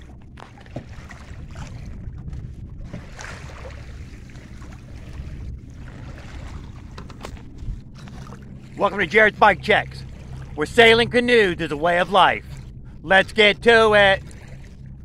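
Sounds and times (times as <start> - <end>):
waves splashing against hull: 0.0 - 15.0
wind rumble on microphone: 0.0 - 15.0.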